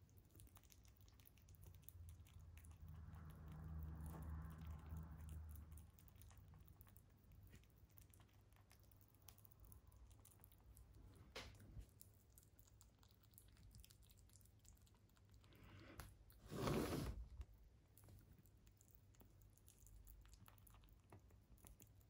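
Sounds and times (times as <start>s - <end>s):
rabbit chewing: 0.0s - 22.0s.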